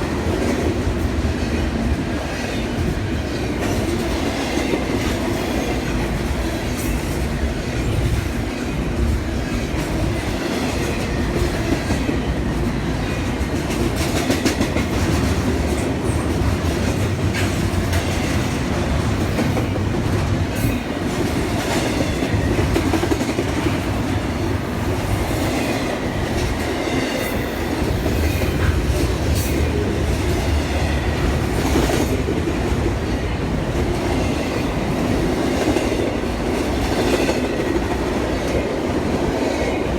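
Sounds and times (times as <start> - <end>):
train rumbling past: 0.0 - 39.9.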